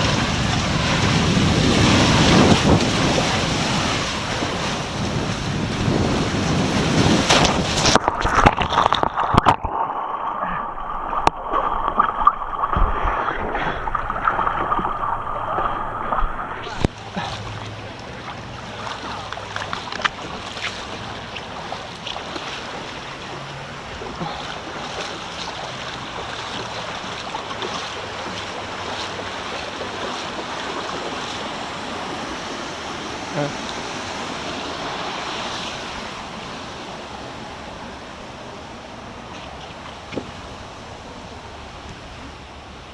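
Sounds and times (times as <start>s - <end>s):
water rushing down a slide: 0.0s - 37.7s.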